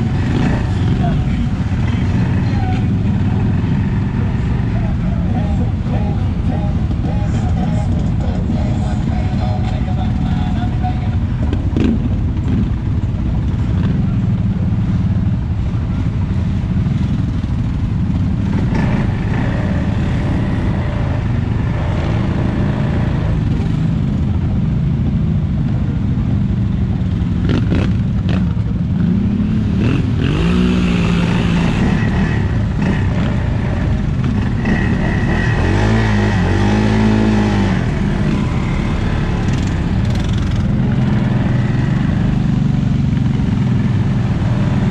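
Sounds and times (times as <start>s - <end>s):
off-road vehicle engine revving: 0.0s - 10.7s, 11.5s - 14.3s, 18.2s - 23.9s, 27.3s - 44.9s.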